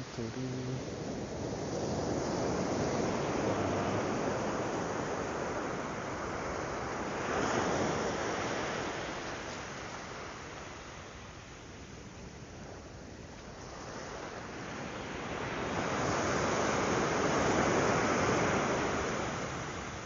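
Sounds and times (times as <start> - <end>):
waves breaking on sand: 0.0 - 20.0.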